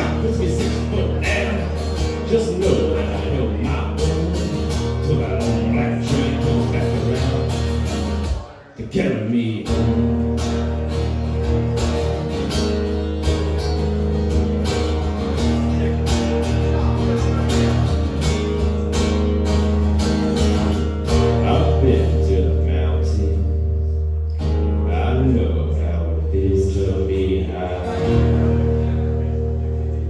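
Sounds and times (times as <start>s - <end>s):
bass line: 0.0s - 30.0s
guitars playing: 0.0s - 30.0s.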